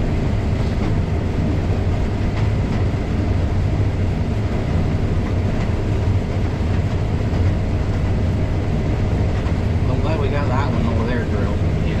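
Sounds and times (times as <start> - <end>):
combine harvester low drone: 0.0 - 12.0
machinery noise: 0.0 - 12.0.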